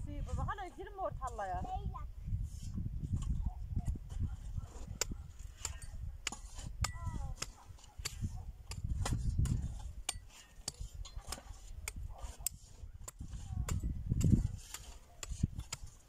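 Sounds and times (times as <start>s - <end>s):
tools striking stony soil: 2.4s - 16.0s.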